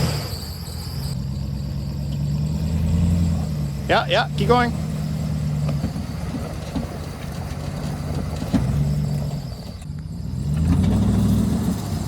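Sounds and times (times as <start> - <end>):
pickup truck engine revving: 0.0 - 12.0.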